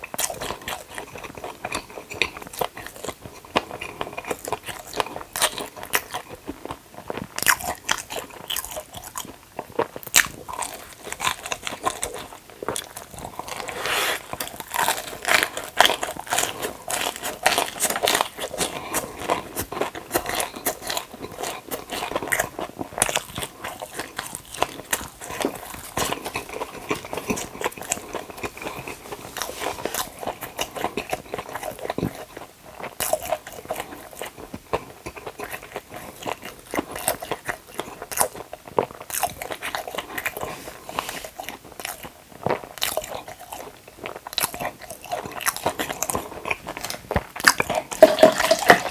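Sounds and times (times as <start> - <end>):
crunchy biting and chewing: 0.0 - 48.9.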